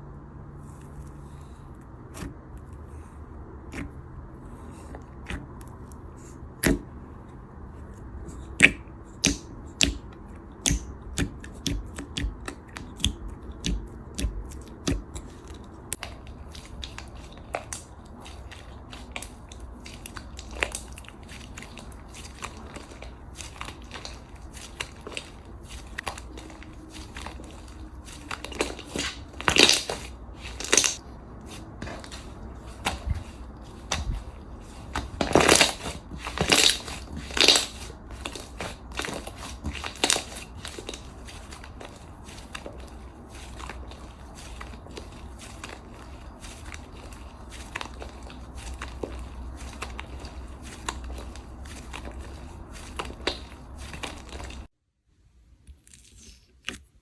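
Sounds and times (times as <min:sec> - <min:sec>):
sharp crunches and clicks: 0:08.2 - 0:54.7.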